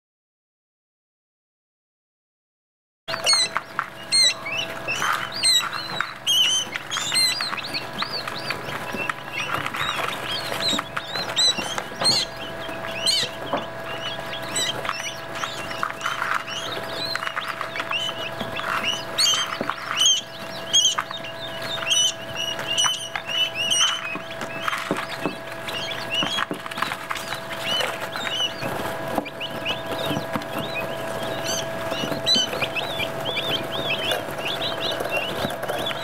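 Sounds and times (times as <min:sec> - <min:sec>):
chicks peeping: 0:03.1 - 0:36.0
steady low hum: 0:03.1 - 0:36.0.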